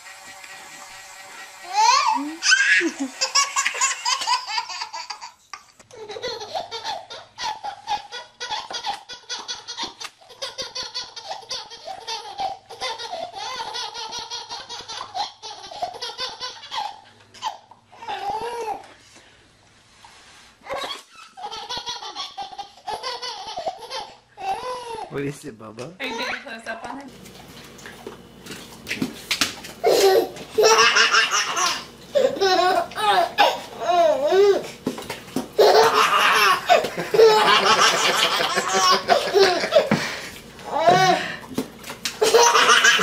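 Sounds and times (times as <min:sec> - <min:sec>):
babies laughing: 0:01.7 - 0:18.9, 0:20.6 - 0:25.1, 0:29.8 - 0:43.0.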